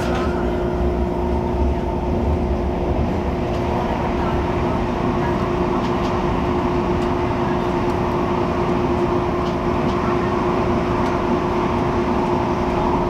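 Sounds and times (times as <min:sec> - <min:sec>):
constant hum: 0:00.0 - 0:13.0
train cabin rumble: 0:00.0 - 0:13.0.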